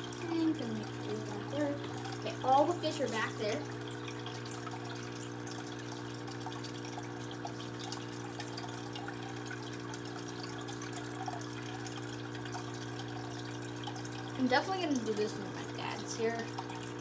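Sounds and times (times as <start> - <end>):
low electrical hum: 0.0 - 17.0
water trickling and splashing: 0.0 - 17.0.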